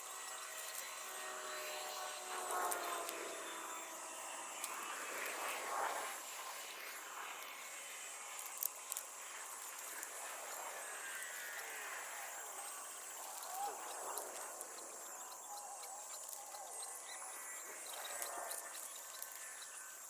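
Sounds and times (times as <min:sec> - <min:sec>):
small motors whining: 0:00.0 - 0:20.0.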